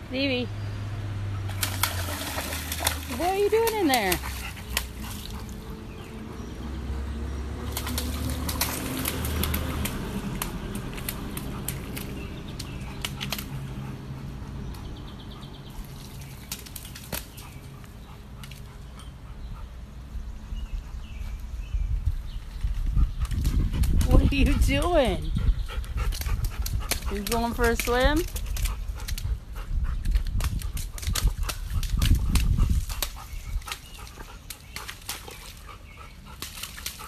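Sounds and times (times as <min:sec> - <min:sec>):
dog splashing through puddle: 0:01.0 - 0:18.9, 0:22.4 - 0:37.0.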